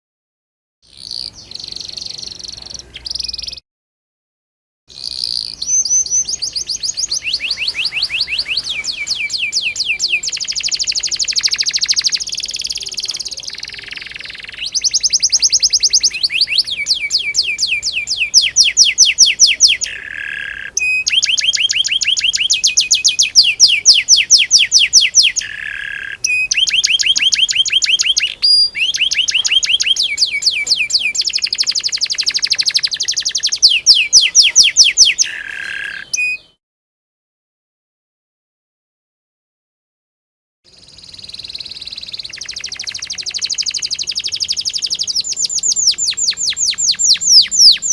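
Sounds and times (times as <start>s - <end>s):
canary singing trills: 0.9s - 3.6s, 4.9s - 36.6s, 40.7s - 47.9s.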